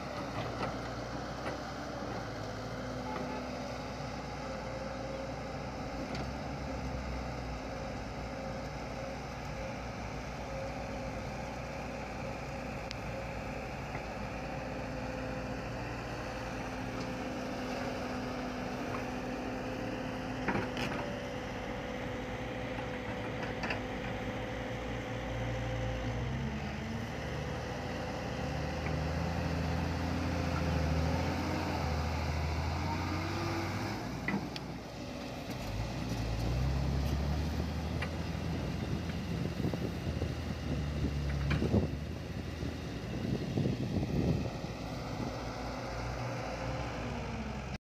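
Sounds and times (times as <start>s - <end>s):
vehicle motor humming: 0.0s - 47.8s.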